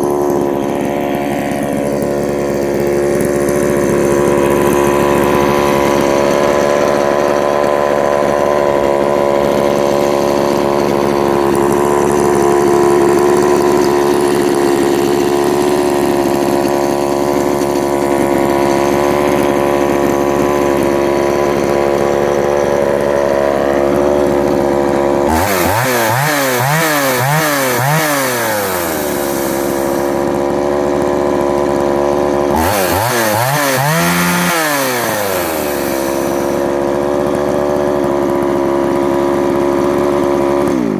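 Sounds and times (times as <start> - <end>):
chainsaw engine running: 0.0 - 40.9
chainsaw throttle blips: 0.0 - 40.9.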